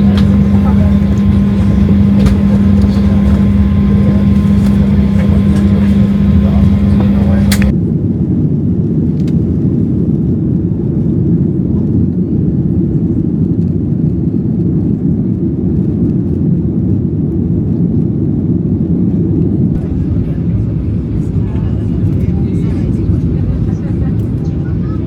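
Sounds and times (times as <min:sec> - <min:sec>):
airliner cabin rumble: 0:00.0 - 0:13.8, 0:18.5 - 0:25.0.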